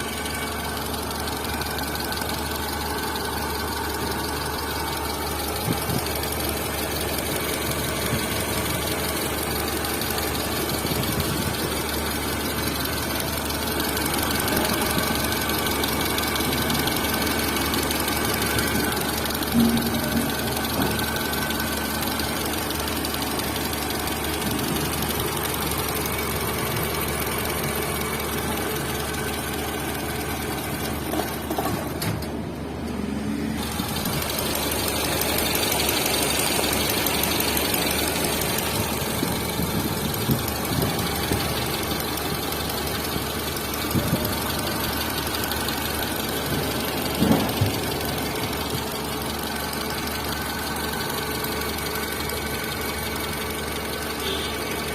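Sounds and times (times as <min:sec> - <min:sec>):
engine mechanical knocking: 0:00.0 - 0:32.4, 0:33.6 - 0:54.9
car engine idling: 0:00.0 - 0:54.9.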